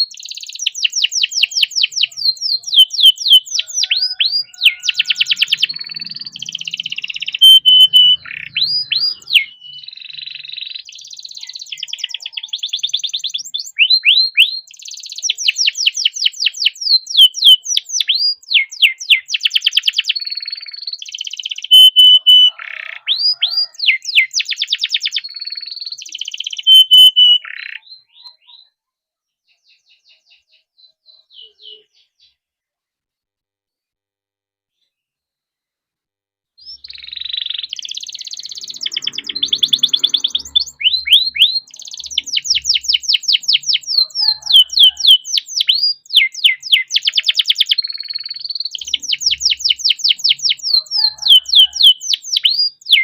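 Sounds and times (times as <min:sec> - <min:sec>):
canary singing trills: 0:00.0 - 0:32.4, 0:36.6 - 0:53.0.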